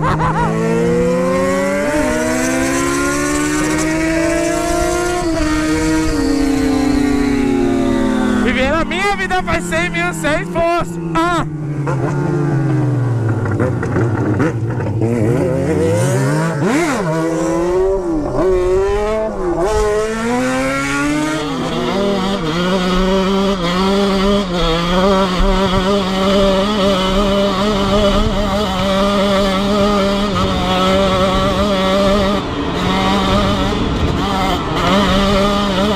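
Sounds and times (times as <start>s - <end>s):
motorcycle engine: 0.0s - 35.9s.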